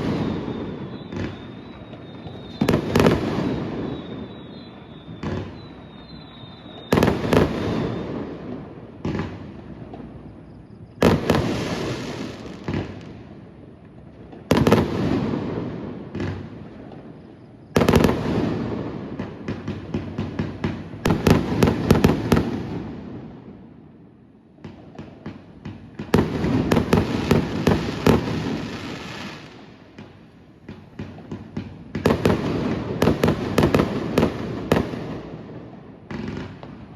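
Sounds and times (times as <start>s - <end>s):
firework bangs with echo: 0.0s - 10.2s, 11.0s - 13.2s, 14.2s - 17.0s, 17.8s - 23.5s, 24.6s - 36.9s
crackling firework pops: 0.0s - 13.2s, 13.8s - 23.1s, 24.6s - 36.9s.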